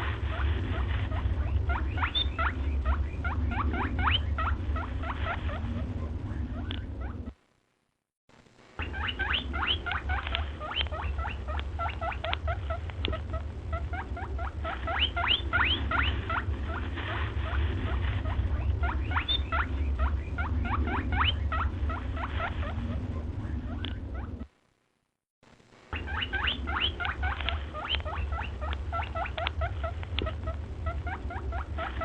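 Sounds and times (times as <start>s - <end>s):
small animals squeaking: 0.0s - 7.4s, 8.8s - 24.5s, 25.9s - 32.0s
low rumble: 0.0s - 7.5s, 8.6s - 24.8s, 25.8s - 32.0s.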